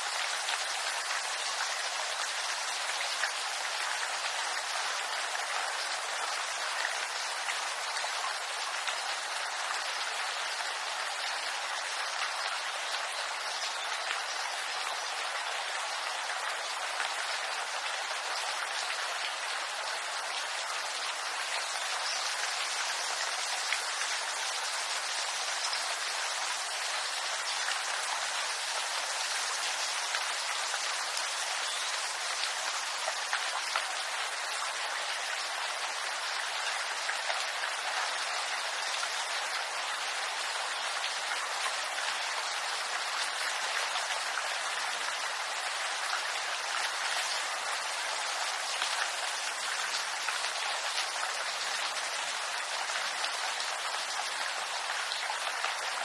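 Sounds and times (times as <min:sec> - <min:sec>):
rain falling on bamboo: 0:00.0 - 0:56.0.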